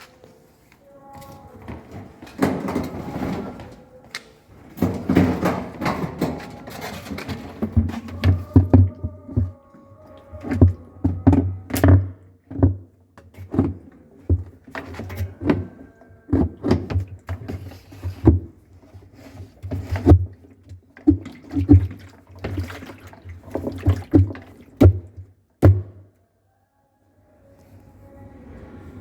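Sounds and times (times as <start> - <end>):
objects knocking and thumping: 1.6 - 3.9, 4.6 - 26.1.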